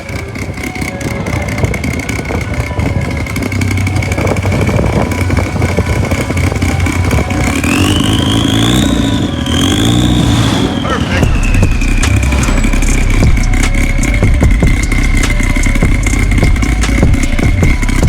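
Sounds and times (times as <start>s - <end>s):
car exhaust rumbling: 0.0s - 18.0s.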